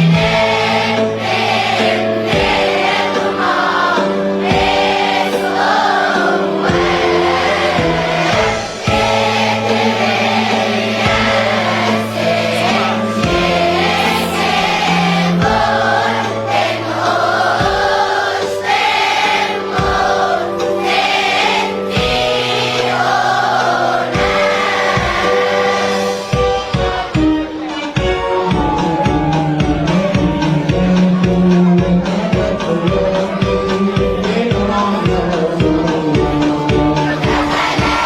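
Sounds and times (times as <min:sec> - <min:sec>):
drum strikes: 0:00.0 - 0:06.0, 0:06.6 - 0:16.7, 0:17.5 - 0:18.2, 0:18.8 - 0:38.0
sustained bass accompaniment: 0:00.0 - 0:18.8, 0:19.6 - 0:38.0
church choir singing a hymn: 0:00.0 - 0:28.0, 0:31.5 - 0:38.0.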